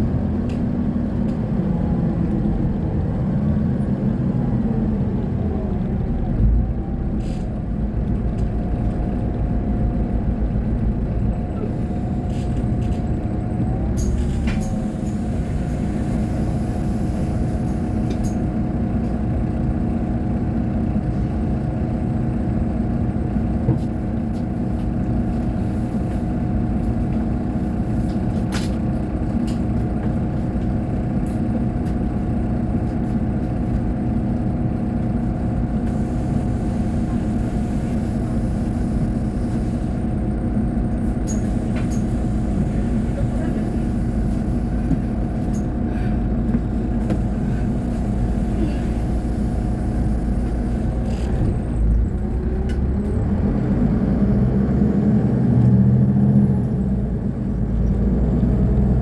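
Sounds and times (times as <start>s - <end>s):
diesel bus engine idling: 0.0s - 59.0s.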